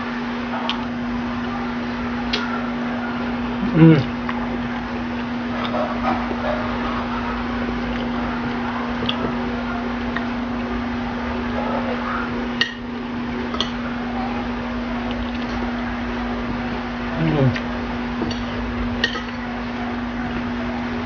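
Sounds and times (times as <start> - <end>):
steady background hum: 0.0 - 21.0
eating soup and rice: 0.5 - 21.0.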